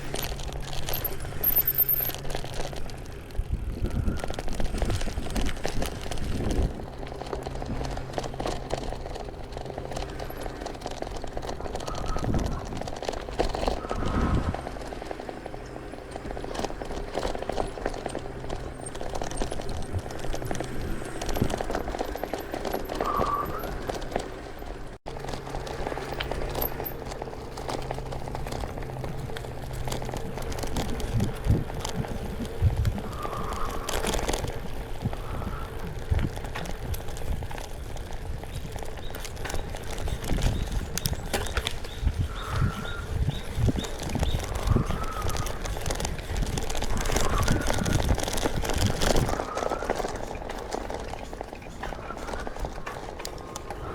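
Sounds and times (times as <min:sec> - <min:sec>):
bicycle rattling: 0:00.0 - 0:53.9
tyres running over dirt: 0:00.0 - 0:53.9.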